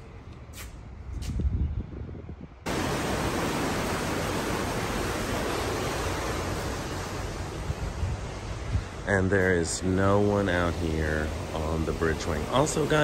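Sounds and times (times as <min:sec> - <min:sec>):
wind rushing over microphone: 0:00.8 - 0:13.0.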